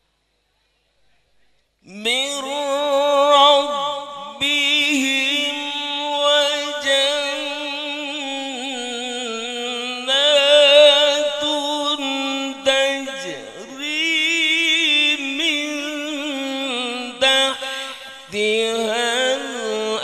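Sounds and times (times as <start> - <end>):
man chanting into a microphone: 1.9 - 20.0.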